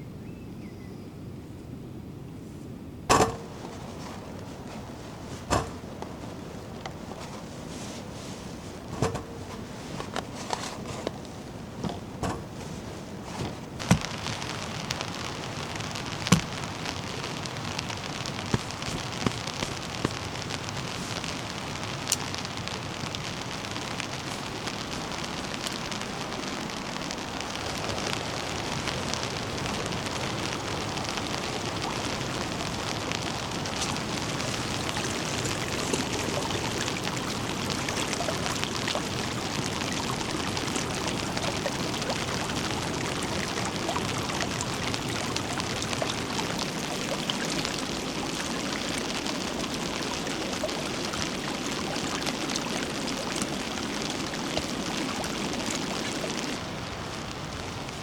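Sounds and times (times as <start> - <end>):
heavy rain hissing: 3.1 - 58.0.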